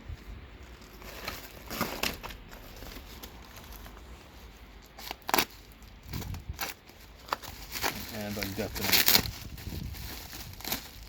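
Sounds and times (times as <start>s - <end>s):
rustling and crinkling of parts: 0.0s - 11.0s.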